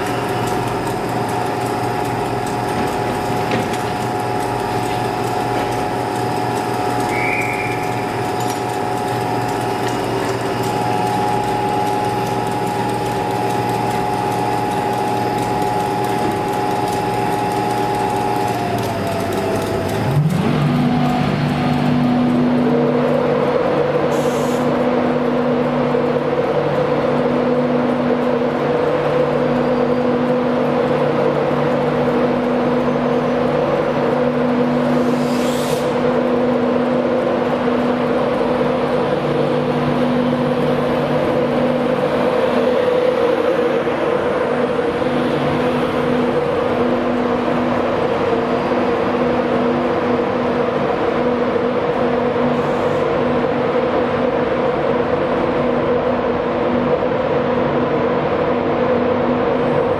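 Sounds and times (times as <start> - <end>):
cooling fans whirring: 0.0 - 59.9
electric locomotive humming: 0.0 - 59.9.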